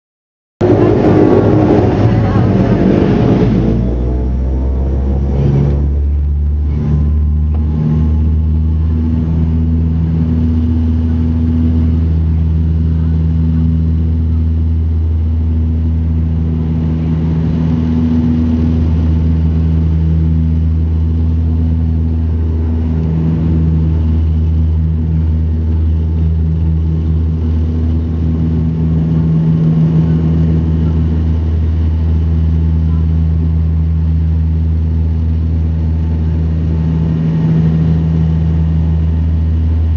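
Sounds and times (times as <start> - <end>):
turboprop engines droning: 0.6 - 39.9.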